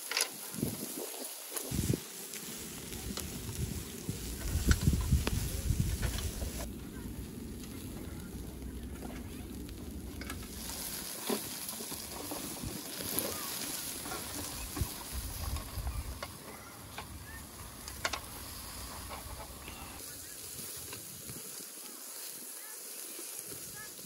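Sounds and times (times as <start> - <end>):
grill fat crackling and popping: 0.0 - 24.0
meat sizzling over charcoal grill: 0.0 - 24.0.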